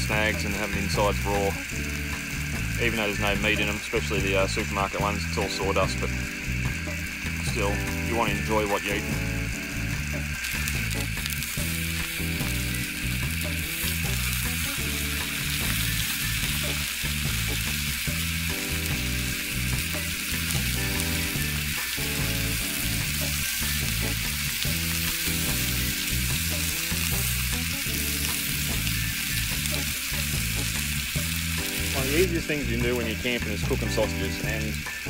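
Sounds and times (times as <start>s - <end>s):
sausages sizzling in a skillet: 0.0s - 35.0s.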